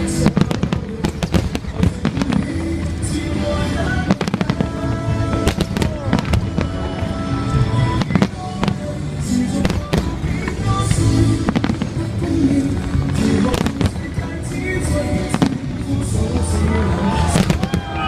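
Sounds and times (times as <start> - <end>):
fireworks bangs and crackling: 0.0 - 18.0
music playing: 0.0 - 18.0.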